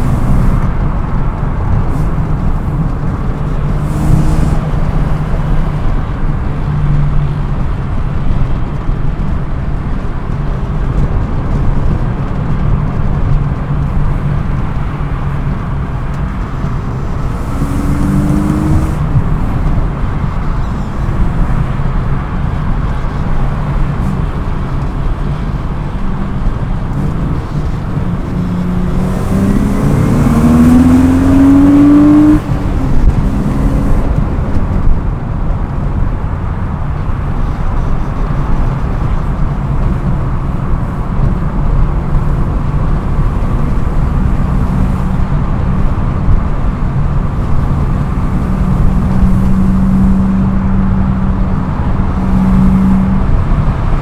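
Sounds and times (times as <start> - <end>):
car engine revving while driving: 0.0 - 54.0
road noise: 0.0 - 54.0.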